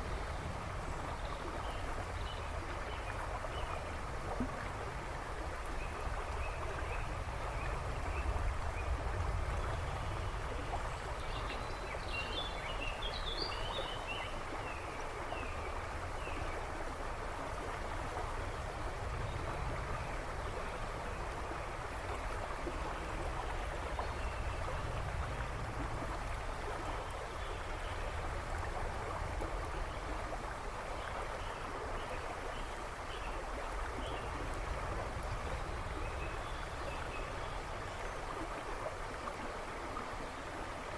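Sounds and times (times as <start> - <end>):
river rushing and splashing: 0.0 - 40.9.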